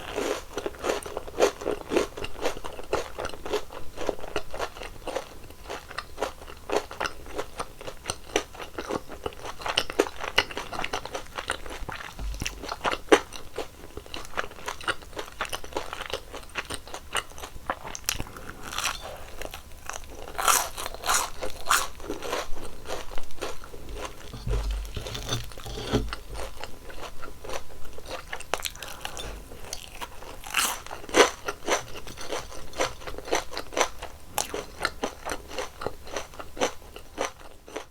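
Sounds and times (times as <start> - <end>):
crunching and chewing fried dough: 0.0 - 37.9.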